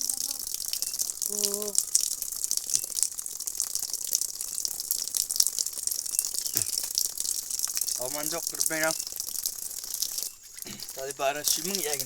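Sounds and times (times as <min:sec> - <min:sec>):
running water splashing: 0:00.0 - 0:12.0.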